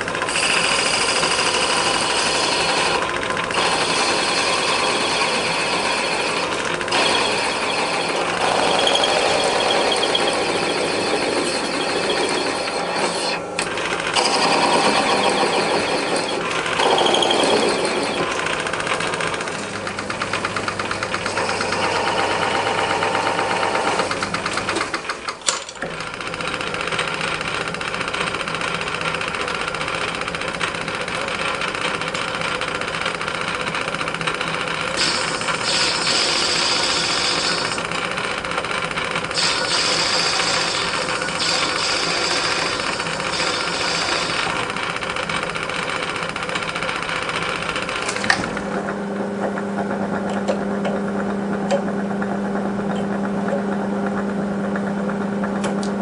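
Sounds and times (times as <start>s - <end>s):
metal lathe cutting: 0.0s - 54.3s
lathe running hum: 0.0s - 56.0s.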